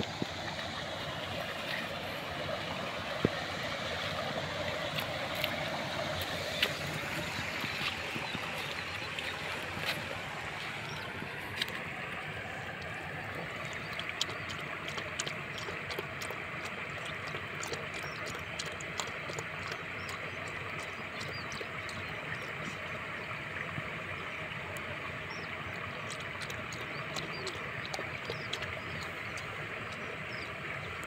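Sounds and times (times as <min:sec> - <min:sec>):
puppy lapping water: 0:00.0 - 0:31.0.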